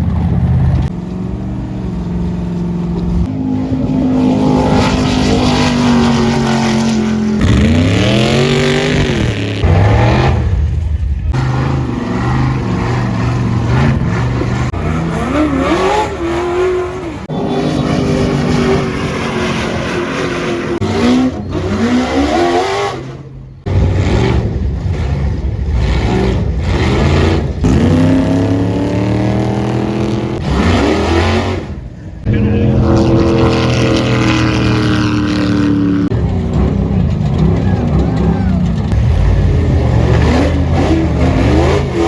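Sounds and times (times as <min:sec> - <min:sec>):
buggy engines revving: 0:00.0 - 0:42.0.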